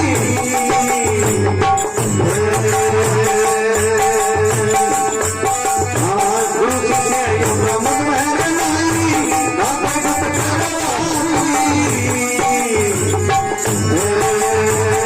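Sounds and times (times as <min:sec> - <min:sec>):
hand drum beat: 0:00.0 - 0:15.0
rattling percussion: 0:00.0 - 0:15.0.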